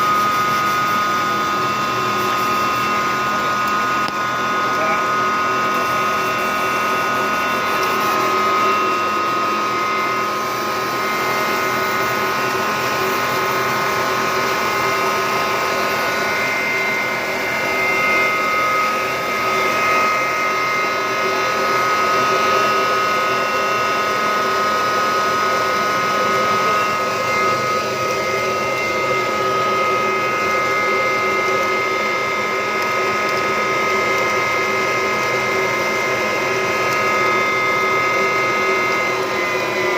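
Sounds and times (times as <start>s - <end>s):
disk mill machine whine: 0.0s - 39.9s.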